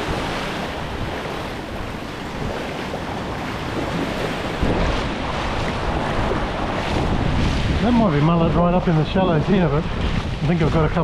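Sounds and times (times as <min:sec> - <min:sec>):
small surf waves washing: 0:00.0 - 0:11.0
wind buffeting microphone: 0:00.0 - 0:11.0.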